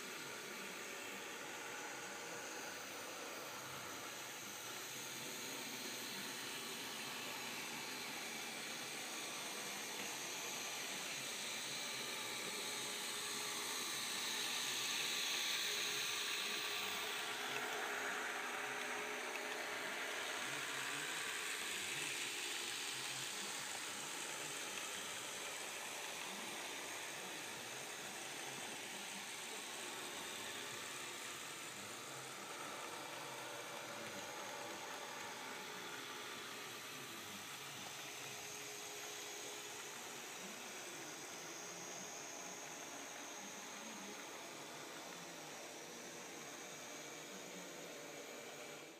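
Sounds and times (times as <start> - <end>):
model trains whirring: 0.0 - 48.9.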